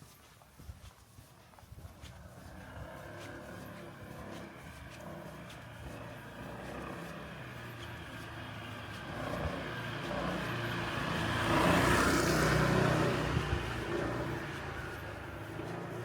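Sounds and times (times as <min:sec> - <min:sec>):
road vehicle passing by: 0:02.0 - 0:16.0.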